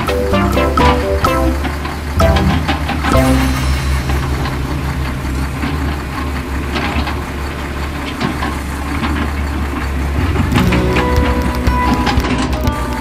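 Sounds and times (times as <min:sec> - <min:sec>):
truck engine idling: 0:00.1 - 0:11.5.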